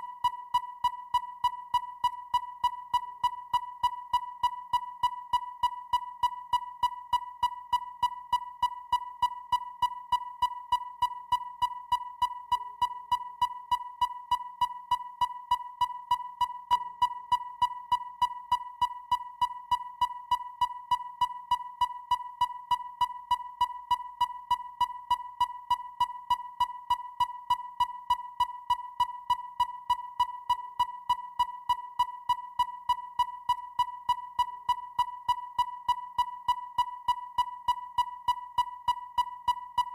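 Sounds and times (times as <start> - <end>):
sharp electronic ticks: 0.2 - 39.9.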